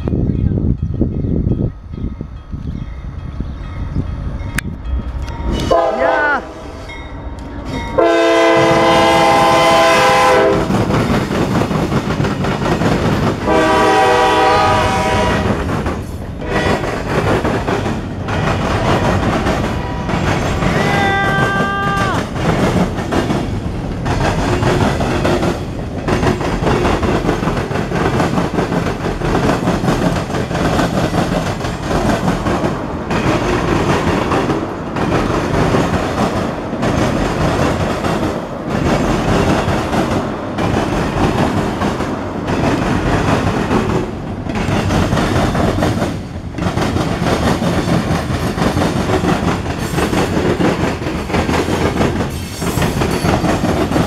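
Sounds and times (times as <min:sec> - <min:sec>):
freight train rumbling past: 0:00.0 - 0:54.0
wheels clacking over rail joints: 0:06.9 - 0:54.0.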